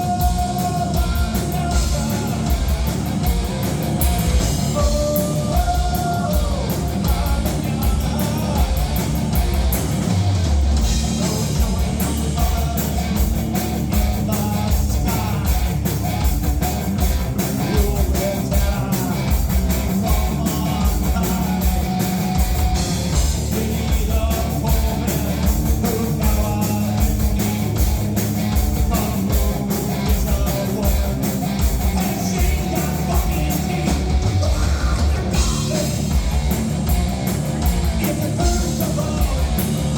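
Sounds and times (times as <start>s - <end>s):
heavy rock band playing loudly: 0.0s - 39.9s.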